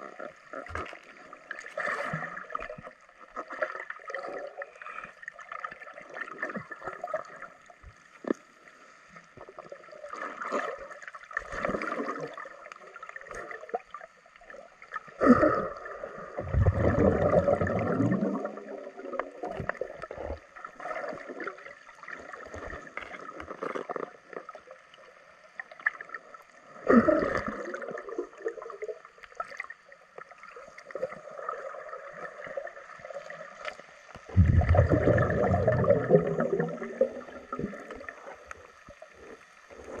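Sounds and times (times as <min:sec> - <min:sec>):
muffled underwater sloshing: 0:00.0 - 0:40.0
water surges: 0:00.0 - 0:40.0.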